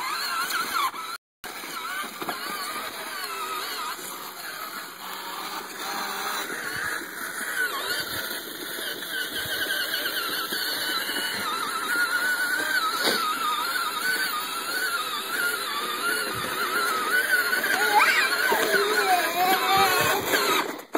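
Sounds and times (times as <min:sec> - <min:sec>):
electric motor whining: 0:00.0 - 0:20.9.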